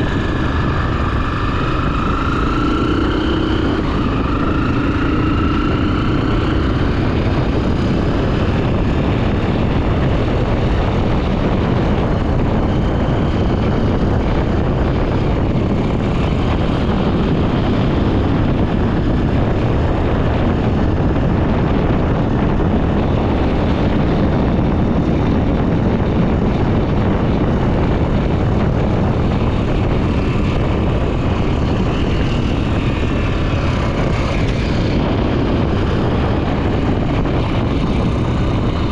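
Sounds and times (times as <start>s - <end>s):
motorcycle engine running: 0.0s - 38.9s
steady rushing noise: 0.0s - 38.9s.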